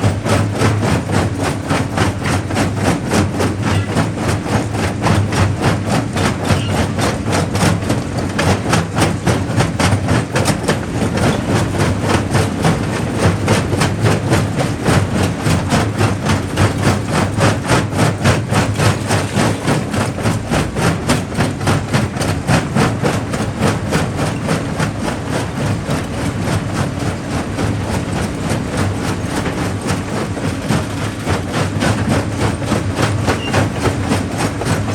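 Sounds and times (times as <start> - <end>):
rapid rhythmic knocks: 0.0 - 34.9
rock crusher rumbling: 0.0 - 34.9.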